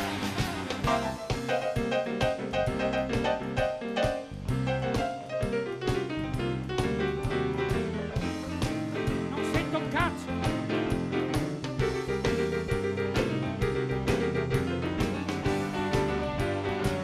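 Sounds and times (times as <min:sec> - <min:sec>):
stage piano: 0:00.0 - 0:17.0
steady drum beat: 0:00.0 - 0:17.0.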